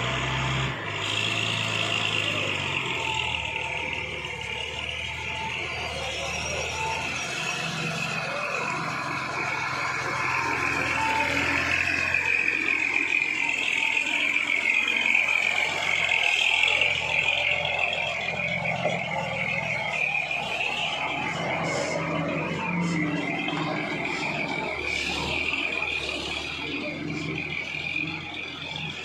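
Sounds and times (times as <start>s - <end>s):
diesel truck engine passing: 0.0s - 29.0s
high wavering whine: 1.2s - 29.0s.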